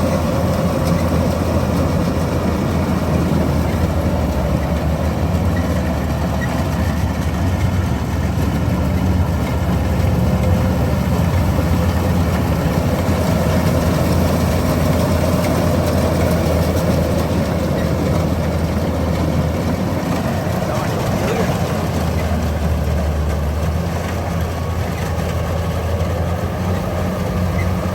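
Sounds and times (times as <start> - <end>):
combine harvester engine humming: 0.0 - 27.9.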